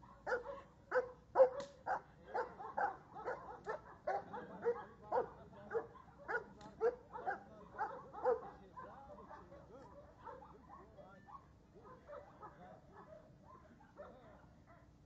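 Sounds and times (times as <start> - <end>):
dog barking: 0.0 - 15.0.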